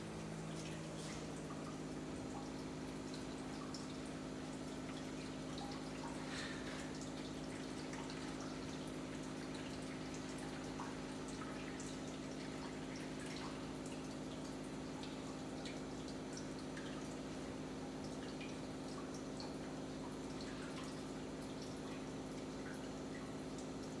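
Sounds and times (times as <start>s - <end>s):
low pump hum: 0.0s - 24.0s
water trickling and dripping: 0.1s - 24.0s.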